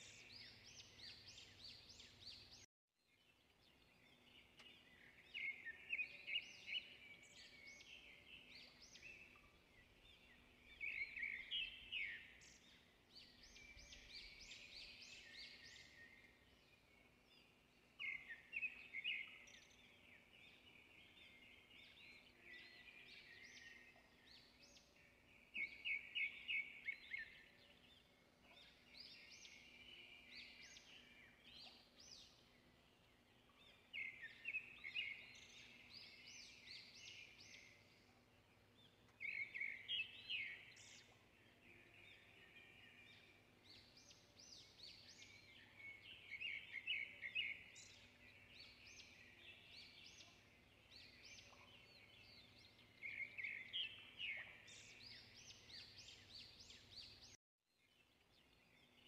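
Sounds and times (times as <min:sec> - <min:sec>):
birds chirping: 0:03.4 - 0:57.4.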